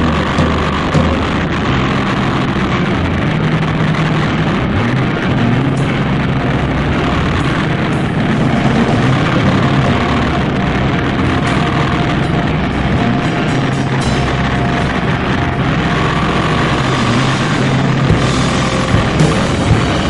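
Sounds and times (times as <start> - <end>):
motorcycle engine revving: 0.0 - 20.0
wind rush on microphone: 0.0 - 20.0.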